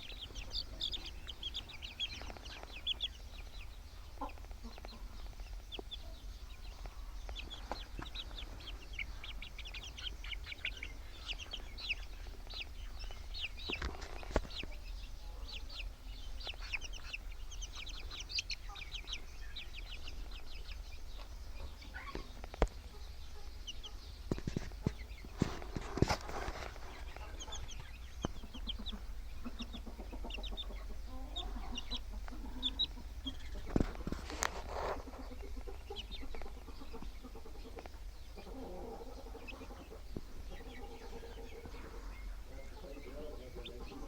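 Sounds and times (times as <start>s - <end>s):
chicks peeping: 0.0s - 44.0s.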